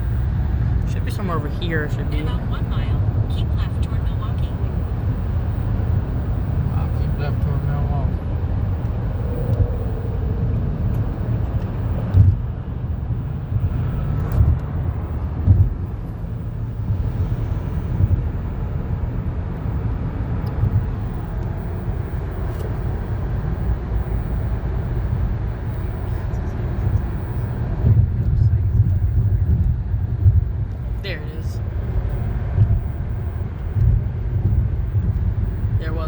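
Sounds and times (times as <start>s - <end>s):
road rumble inside car: 0.0s - 36.0s.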